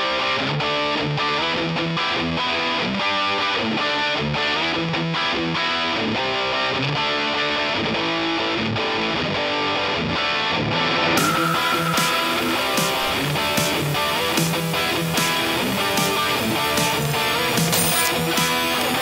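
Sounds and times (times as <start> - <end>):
guitar music with steady beat: 0.0 - 19.0.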